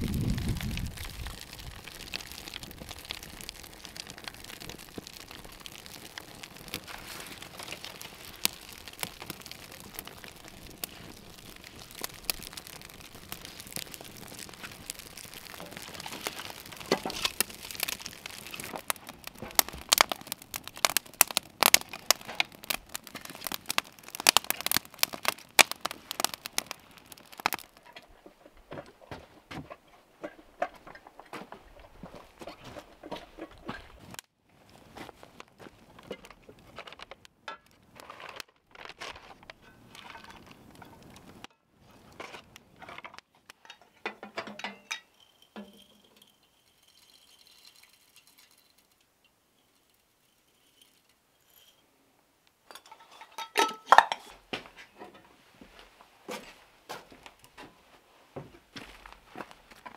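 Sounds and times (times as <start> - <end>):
fire crackling and popping: 0.0 - 51.6, 52.4 - 59.9.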